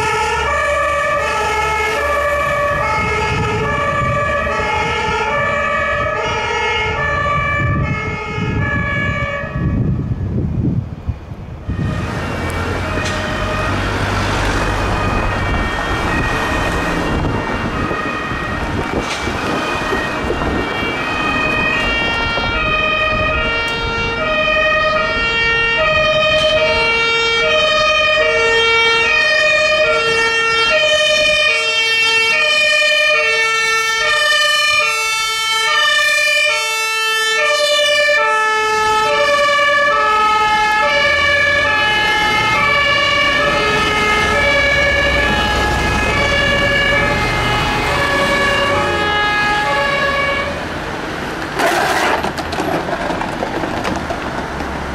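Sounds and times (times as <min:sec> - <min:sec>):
two-tone fire engine horn: 0:00.0 - 0:10.1, 0:11.7 - 0:50.7
truck engine and road rumble: 0:00.0 - 0:54.9.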